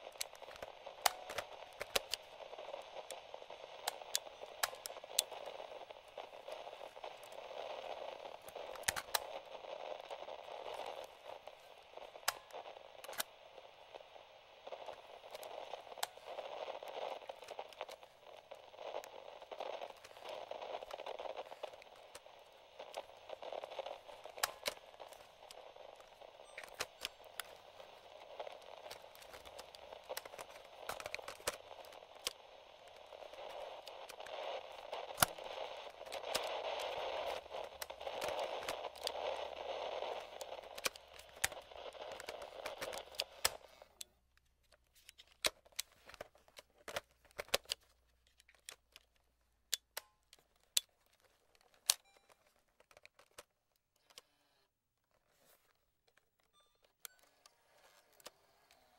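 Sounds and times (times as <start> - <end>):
radio static hiss and crackles: 0.0 - 56.0, 57.2 - 58.9.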